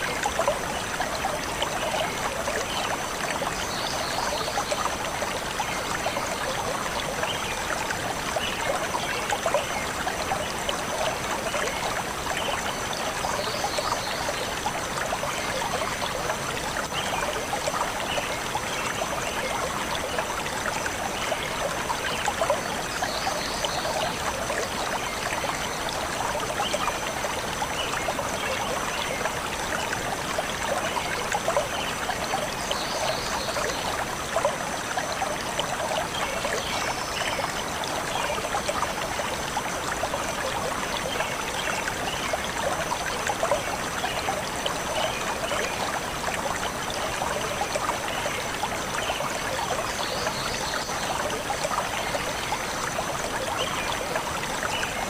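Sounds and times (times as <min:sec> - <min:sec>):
stream flowing and trickling: 0:00.0 - 0:55.0.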